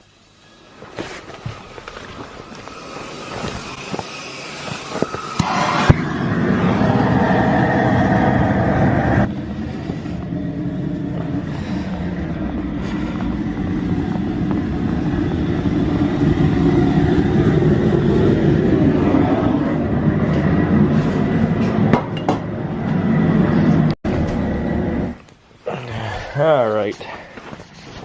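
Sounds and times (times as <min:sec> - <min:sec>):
propane burner roaring: 0:00.0 - 0:26.2.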